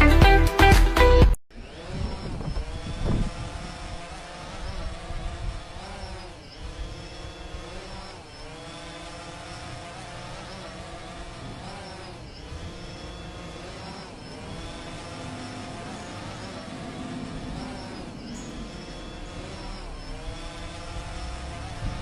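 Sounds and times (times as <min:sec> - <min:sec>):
machine hum: 0:01.5 - 0:22.0.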